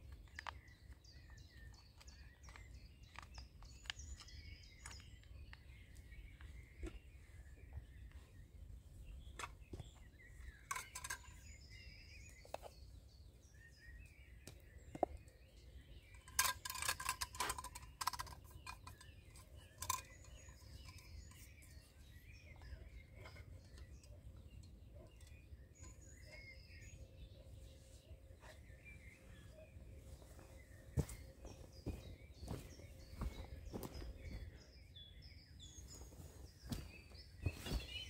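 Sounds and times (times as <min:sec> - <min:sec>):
birds singing: 0:00.0 - 0:38.0.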